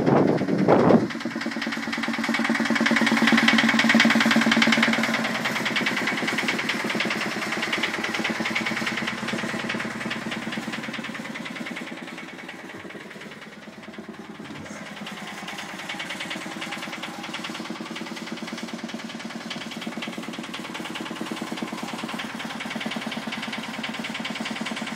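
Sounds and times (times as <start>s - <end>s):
diesel engine idling with knock: 0.0s - 24.9s.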